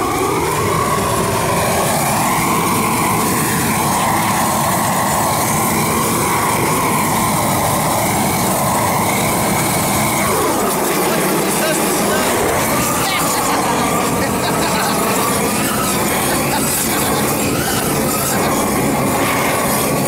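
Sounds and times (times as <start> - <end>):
propane torch burning: 0.0 - 20.0.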